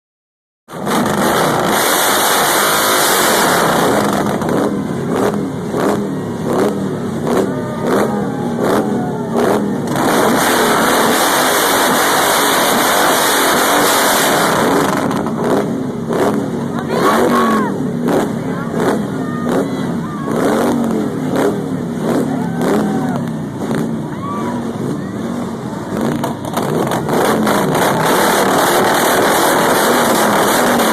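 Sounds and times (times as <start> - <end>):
vehicle engine revving: 0.7 - 30.9.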